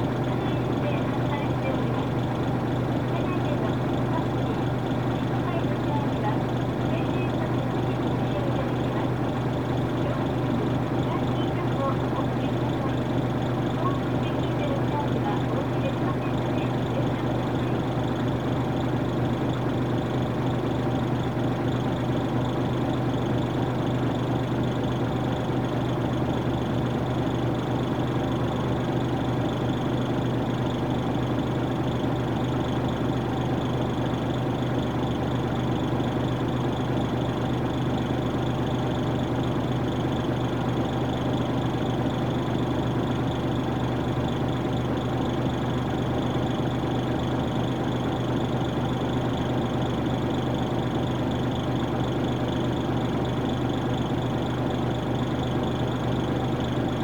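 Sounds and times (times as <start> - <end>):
diesel bus engine idling: 0.0 - 57.0.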